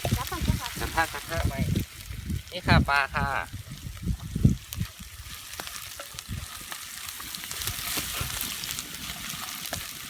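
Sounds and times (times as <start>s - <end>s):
food sizzling in hot oil: 0.0s - 10.0s
oil popping and crackling: 0.0s - 10.0s.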